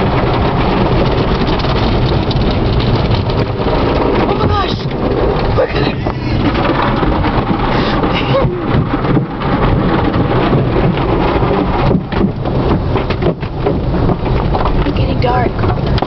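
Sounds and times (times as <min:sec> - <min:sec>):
water rushing on car windows: 0:00.0 - 0:16.0.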